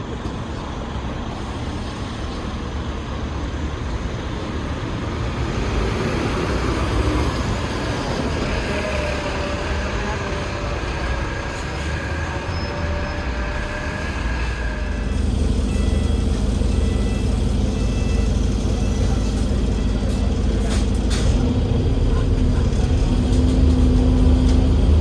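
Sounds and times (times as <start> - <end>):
bus diesel engine rumbling: 0.0 - 25.0
road noise: 0.0 - 25.0.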